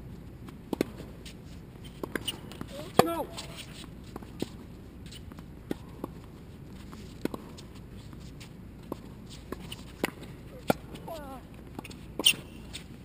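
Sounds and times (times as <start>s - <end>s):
tennis balls bouncing and struck: 0.4s - 13.0s.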